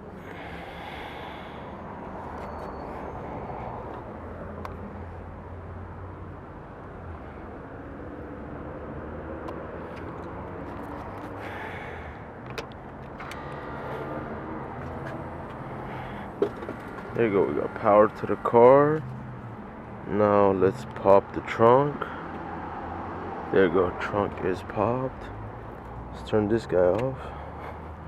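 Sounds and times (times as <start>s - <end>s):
low vehicle-like hum: 0.0s - 28.0s
outdoor background noise: 0.0s - 28.0s.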